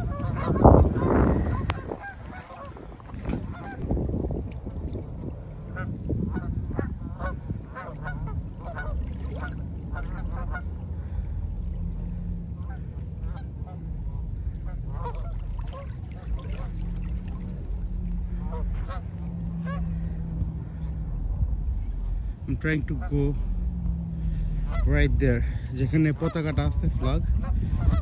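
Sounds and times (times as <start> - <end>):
geese honking: 0.0 - 3.9, 5.2 - 28.0
wind rumble on microphone: 0.0 - 28.0.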